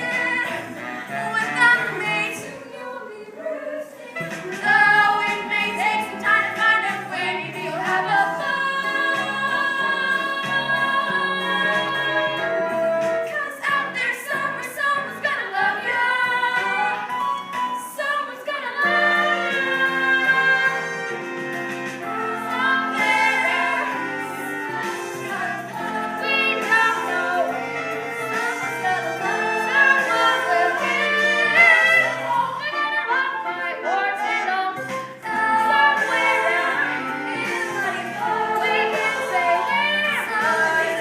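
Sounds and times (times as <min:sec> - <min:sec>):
chorus singing: 0:00.0 - 0:17.0, 0:18.0 - 0:41.0.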